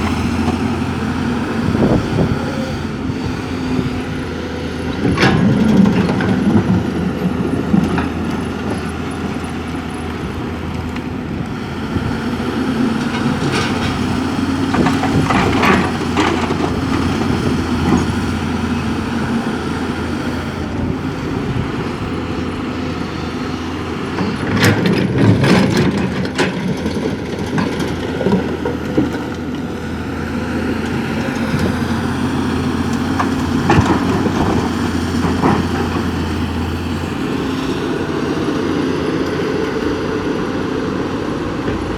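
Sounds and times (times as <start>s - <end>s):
heavy diesel engines running: 0.0s - 41.9s.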